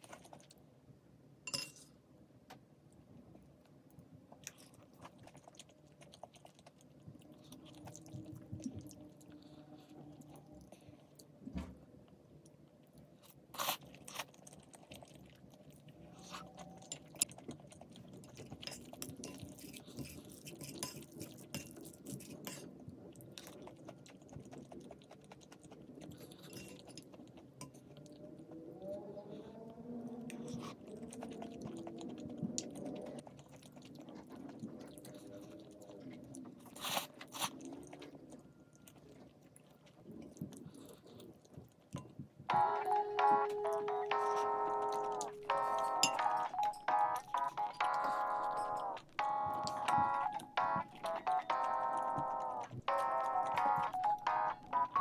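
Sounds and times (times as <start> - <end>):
person chewing crunchy food: 4.3 - 11.4, 12.5 - 55.0.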